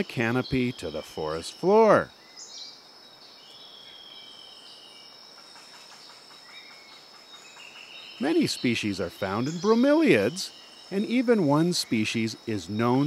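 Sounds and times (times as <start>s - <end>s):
bird-like chirps: 0.0s - 13.0s
high-pitched insect trill: 0.0s - 13.0s.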